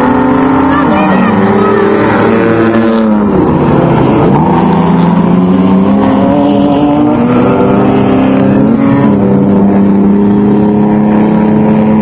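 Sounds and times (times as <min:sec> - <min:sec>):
race truck engines running: 0:00.0 - 0:12.0.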